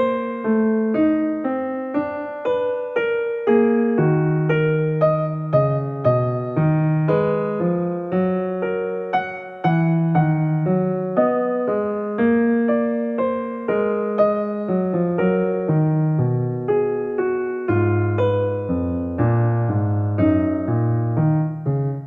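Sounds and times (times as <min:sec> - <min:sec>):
gentle electric piano music: 0:00.0 - 0:22.0.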